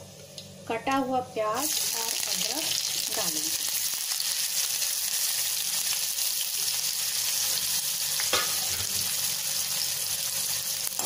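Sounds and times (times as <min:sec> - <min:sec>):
onion sizzling in hot oil: 0:01.4 - 0:11.0.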